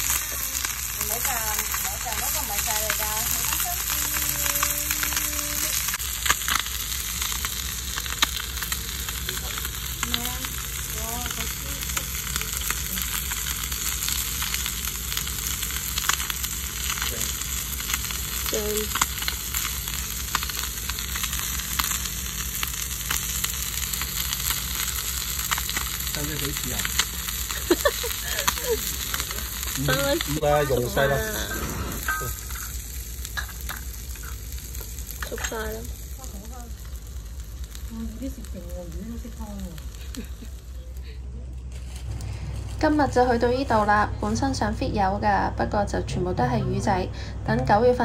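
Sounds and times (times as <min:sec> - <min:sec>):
food sizzling in a pan: 0:00.0 - 0:41.1.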